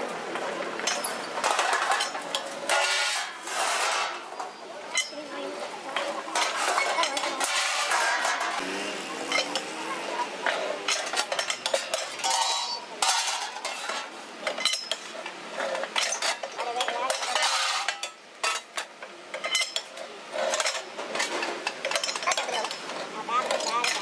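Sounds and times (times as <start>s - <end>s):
metal plates clanking: 0.7s - 8.6s, 9.2s - 24.0s
metal scraping: 0.8s - 24.0s.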